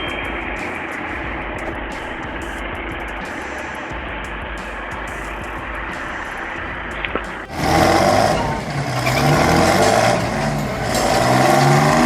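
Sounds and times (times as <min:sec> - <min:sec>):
engine revving under load: 0:00.0 - 0:12.0
heavy vehicle engine running: 0:00.0 - 0:12.0.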